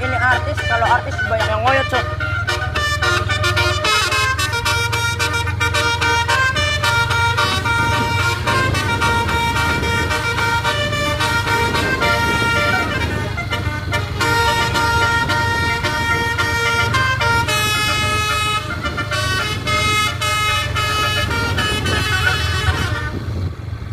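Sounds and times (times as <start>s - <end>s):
musical bus horn: 0.0s - 23.6s
bus engine rumble: 0.0s - 23.9s.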